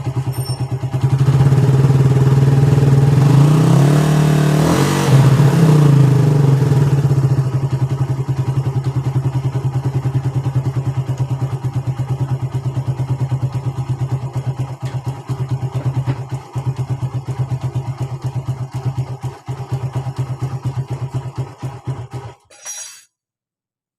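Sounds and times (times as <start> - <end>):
motorcycle engine idling: 0.0 - 3.3, 5.8 - 22.4.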